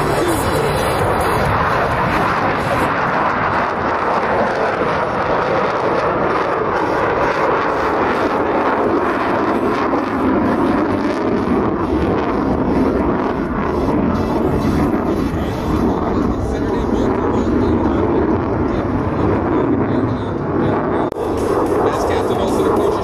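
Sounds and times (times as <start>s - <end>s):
jet fighter flying overhead: 0.0s - 23.0s.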